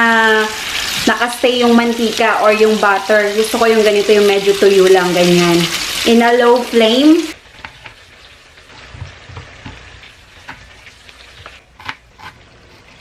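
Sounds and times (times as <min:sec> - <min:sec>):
cooking crackles and clicks: 0:00.0 - 0:13.0.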